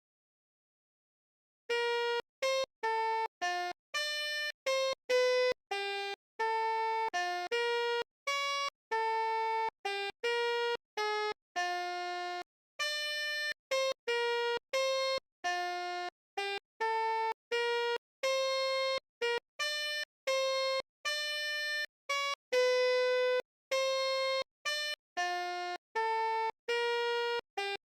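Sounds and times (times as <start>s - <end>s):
bus horn playing a jingle: 1.7s - 27.8s.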